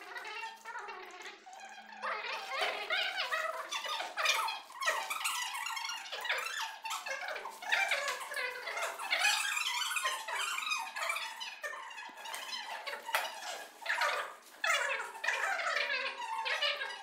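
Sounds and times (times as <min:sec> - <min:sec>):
high-pitched voices talking: 0:00.0 - 0:17.0.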